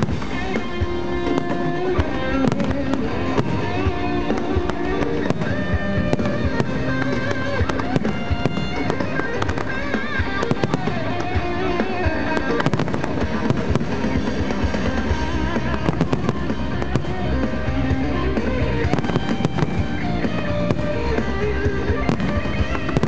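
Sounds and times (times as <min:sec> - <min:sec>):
fireworks bangs and crackles: 0:00.0 - 0:23.0
loud music: 0:00.0 - 0:23.0.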